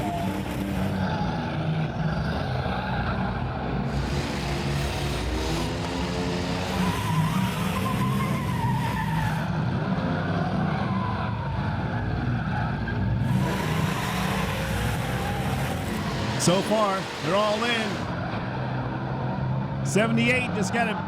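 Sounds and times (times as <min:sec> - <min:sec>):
tires squealing: 0:00.0 - 0:19.8
car engines revving: 0:00.0 - 0:21.0.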